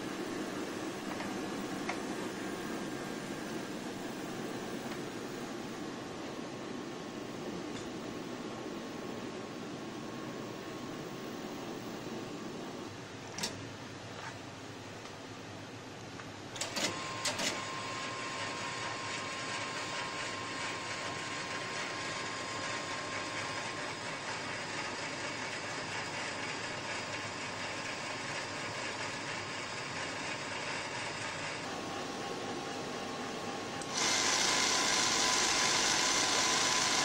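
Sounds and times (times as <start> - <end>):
thin steady whine: 0.0 - 13.5, 16.6 - 37.0
computer whirring: 0.0 - 14.0, 16.6 - 37.0.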